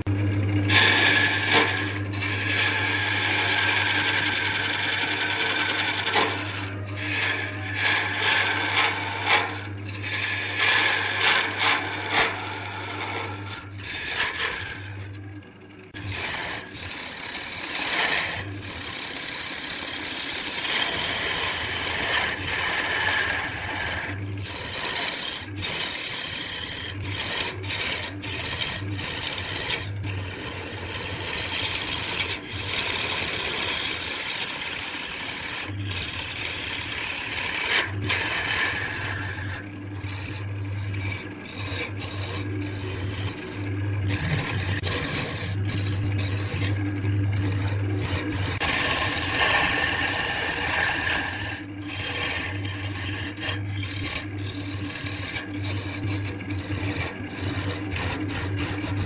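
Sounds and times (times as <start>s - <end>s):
lathe motor humming: 0.0s - 59.0s
lathe tool scraping spinning wood: 0.0s - 59.0s.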